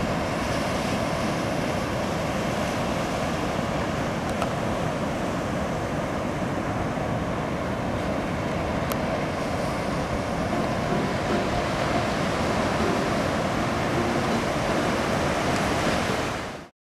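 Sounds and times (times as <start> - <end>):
ocean surf breaking: 0.0 - 16.7.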